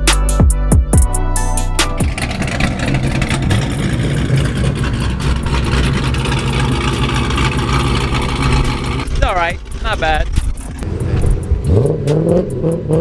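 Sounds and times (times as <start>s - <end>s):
car engine rumbling: 1.0s - 13.0s.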